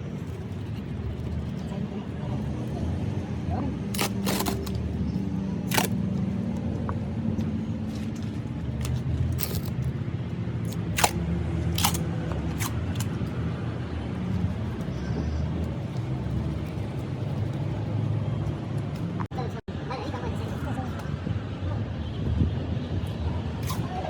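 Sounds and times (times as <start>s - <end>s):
engine rumbling: 0.0s - 19.5s.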